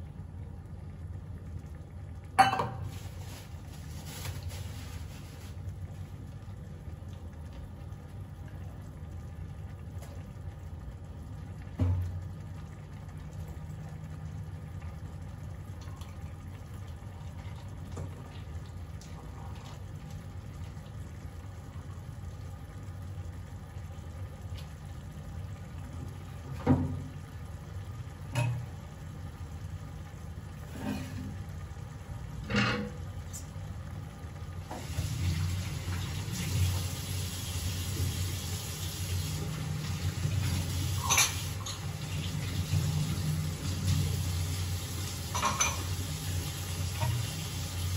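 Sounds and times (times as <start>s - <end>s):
gravy simmering in pan: 0.0s - 47.9s
hissing sizzle: 0.0s - 47.9s.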